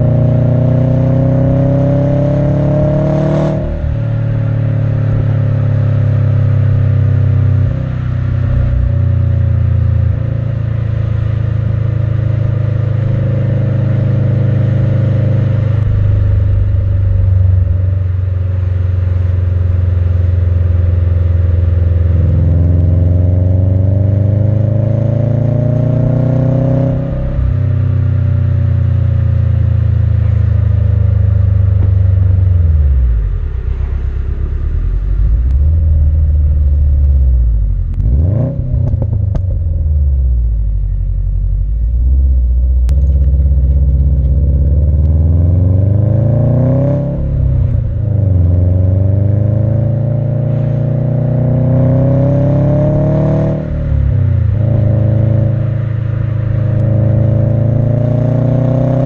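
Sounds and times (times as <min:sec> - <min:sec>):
car engine revving through exhaust: 0:00.0 - 0:59.0.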